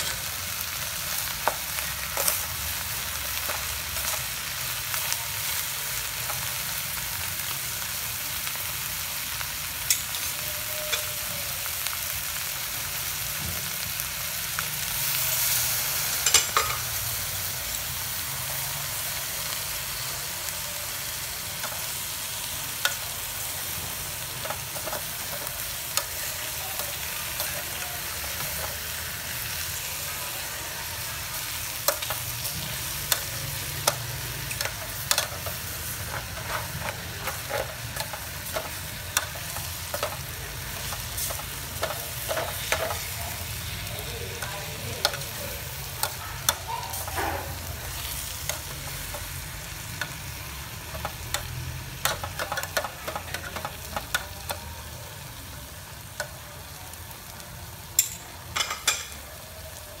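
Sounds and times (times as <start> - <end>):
mushrooms sizzling in a pot: 0.0 - 60.0.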